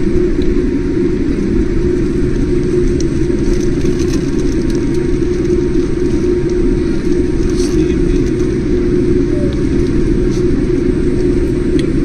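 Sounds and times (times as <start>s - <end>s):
jet engines heard from cabin: 0.0s - 12.0s.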